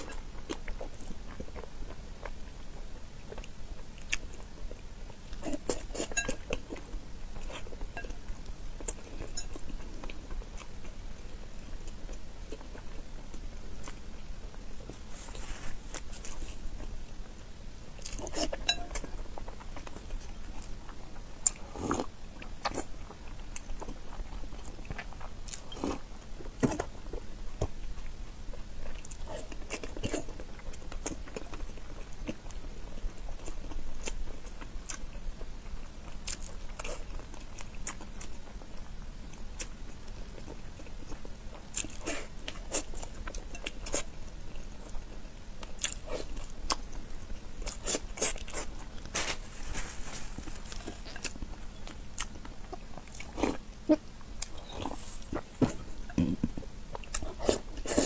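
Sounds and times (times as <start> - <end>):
woman chewing wetly: 0.0 - 15.1, 17.9 - 49.5, 50.4 - 58.0.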